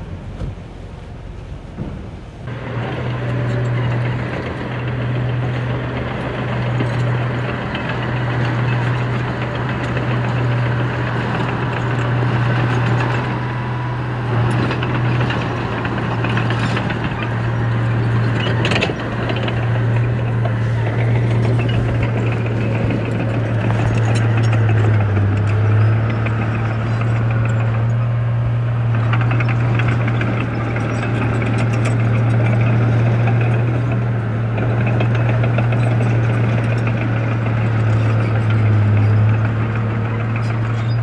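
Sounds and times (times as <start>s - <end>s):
heavy diesel engine under load: 0.0s - 41.0s.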